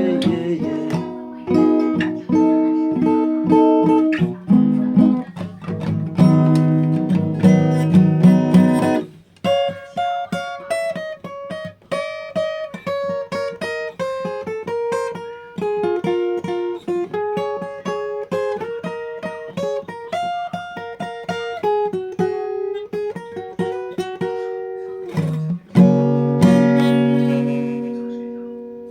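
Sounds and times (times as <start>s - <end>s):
acoustic guitar playing: 0.0s - 28.9s.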